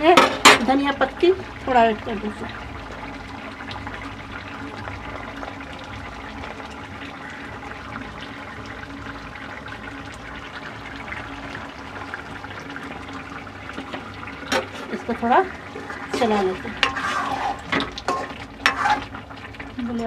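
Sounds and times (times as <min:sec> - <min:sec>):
curry simmering with bubbling pops: 0:00.0 - 0:20.0.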